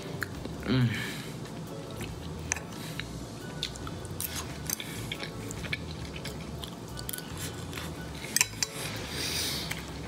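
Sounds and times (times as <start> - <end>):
background music: 0.0 - 10.0
person chewing: 0.0 - 10.0.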